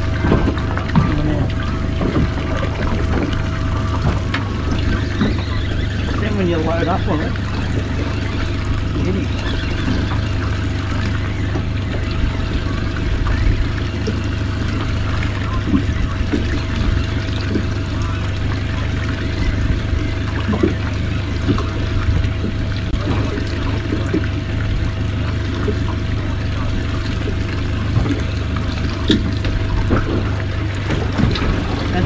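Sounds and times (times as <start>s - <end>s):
outboard motor idling: 0.0s - 32.0s
water lapping against boat hull: 0.0s - 32.0s.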